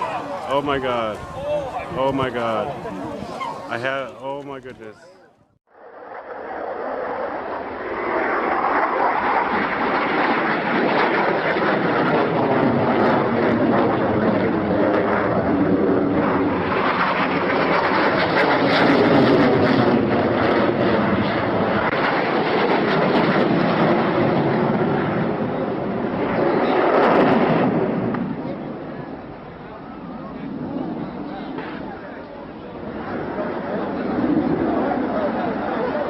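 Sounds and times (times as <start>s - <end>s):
airplane engine rushing: 0.0s - 36.0s.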